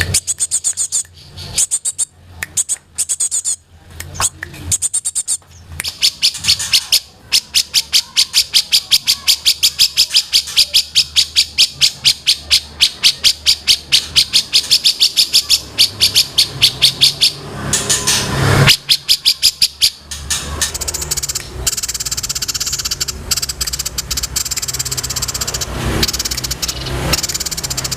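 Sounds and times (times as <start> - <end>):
songbird calling: 4.2 - 17.4, 18.7 - 27.9.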